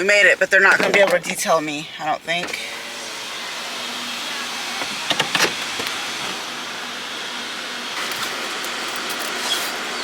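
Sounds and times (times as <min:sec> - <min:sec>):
steady noise inside car: 0:00.0 - 0:10.0.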